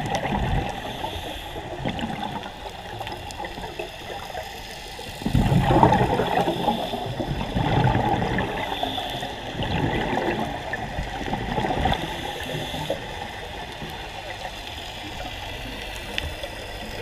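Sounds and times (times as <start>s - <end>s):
underwater bubbling: 0.0s - 17.0s.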